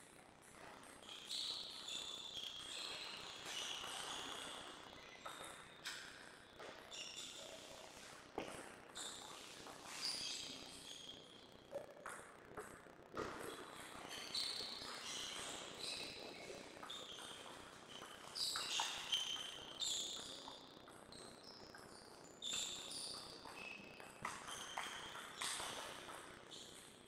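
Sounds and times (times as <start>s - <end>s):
shoes squeaking on sports floor: 0.5s - 21.8s, 22.4s - 26.9s.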